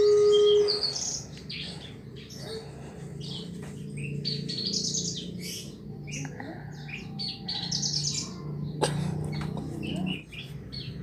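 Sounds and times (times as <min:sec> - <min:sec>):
bird singing chirps and trills: 0:00.0 - 0:11.0
faint low drone: 0:00.0 - 0:11.0.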